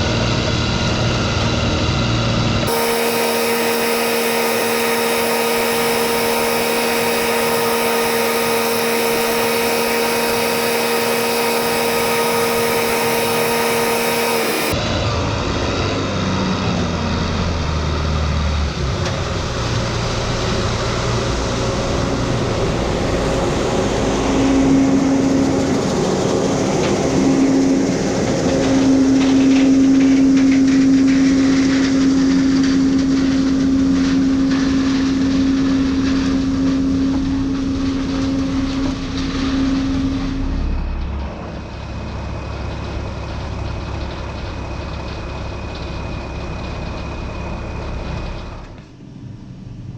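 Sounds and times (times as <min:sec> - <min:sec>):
farm machinery running: 0:00.0 - 0:15.0, 0:16.4 - 0:48.7
strong steady hum: 0:00.0 - 0:44.3.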